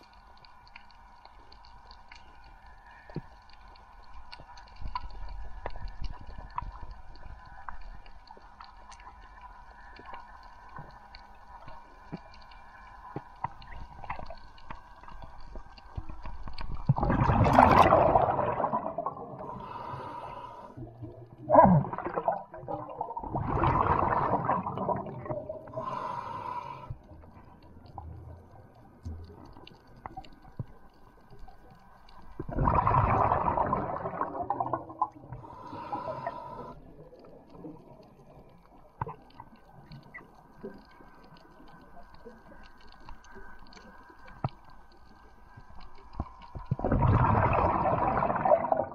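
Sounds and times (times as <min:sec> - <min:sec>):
faint steady hum: 0:00.0 - 0:48.9
underwater bubbling and gurgling: 0:00.0 - 0:48.9.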